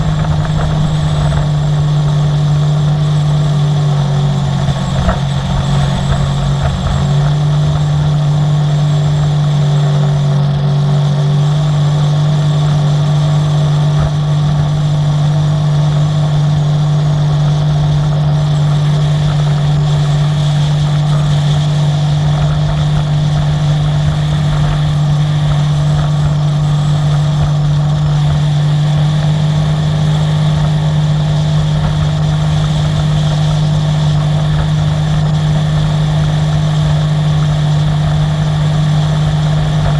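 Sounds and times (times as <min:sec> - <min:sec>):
watercraft engine droning: 0:00.0 - 0:39.9.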